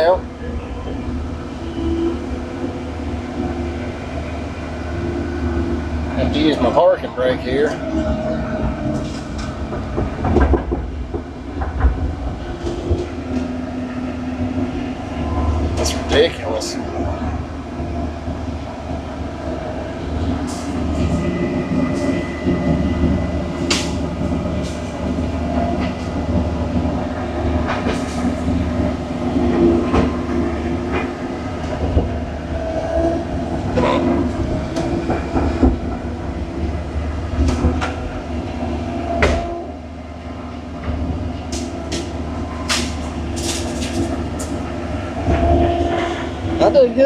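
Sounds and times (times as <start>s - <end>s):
clanks and knocks from tracks: 0.0s - 47.0s
excavator diesel engine running: 0.0s - 47.0s.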